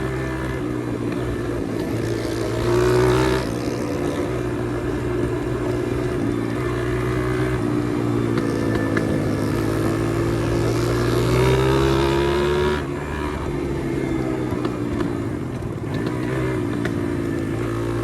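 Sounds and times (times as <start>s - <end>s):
small motorcycle engine revving: 0.0s - 18.0s.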